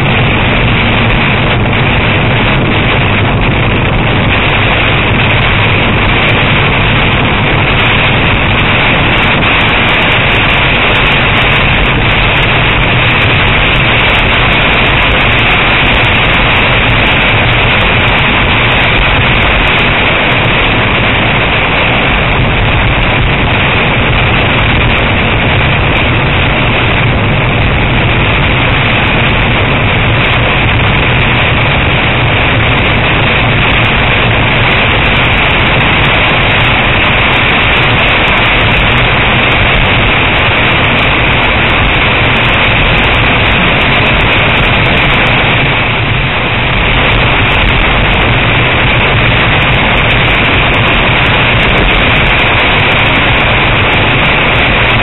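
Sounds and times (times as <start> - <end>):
heavy rain on a car: 0.0 - 55.0.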